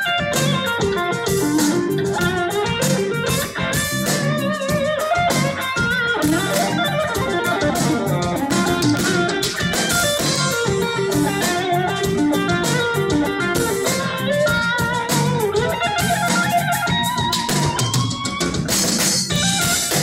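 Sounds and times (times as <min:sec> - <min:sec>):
drum kit with cymbals: 0:00.0 - 0:20.0
electric bass: 0:00.0 - 0:20.0
electric guitar lines: 0:00.0 - 0:20.0.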